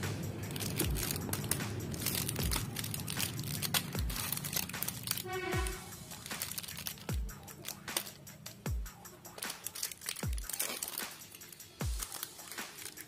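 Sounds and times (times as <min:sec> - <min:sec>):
electronic background music: 0:00.0 - 0:13.0
plastic wrappers crinkling: 0:00.0 - 0:13.0.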